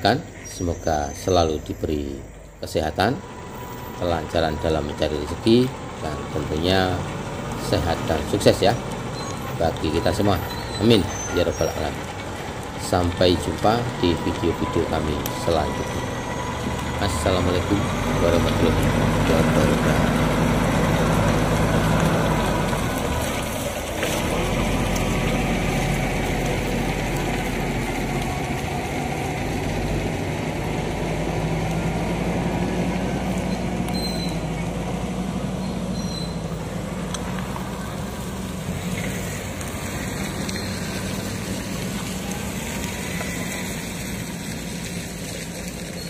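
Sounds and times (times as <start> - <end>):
heavy diesel engines running: 0.0 - 46.0.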